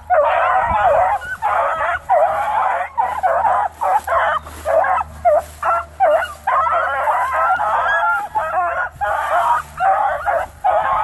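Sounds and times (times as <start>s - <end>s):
dogs yelping and baying: 0.0s - 11.0s.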